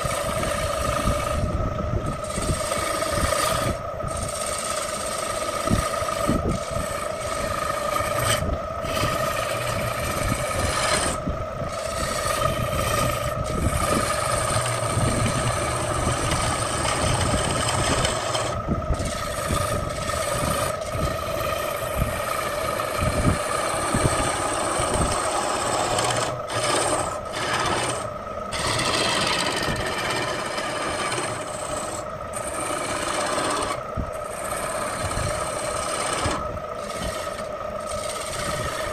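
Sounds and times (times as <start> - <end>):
turning tool scraping wood: 0.0 - 38.9
wood lathe humming: 0.0 - 38.9.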